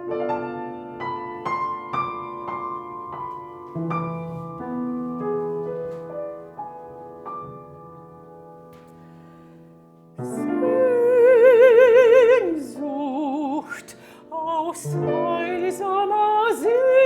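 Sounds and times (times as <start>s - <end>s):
slow quiet piano: 0.0s - 17.0s.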